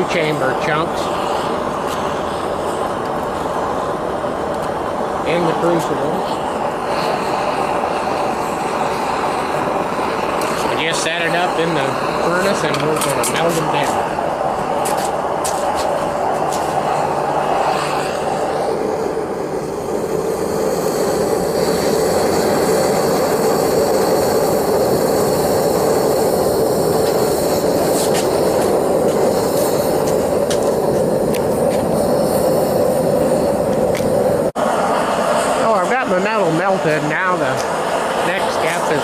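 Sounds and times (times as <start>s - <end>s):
furnace roaring: 0.0s - 39.0s.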